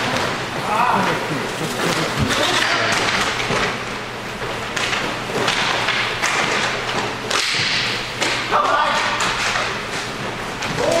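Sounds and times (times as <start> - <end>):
skates rolling: 0.0 - 11.0.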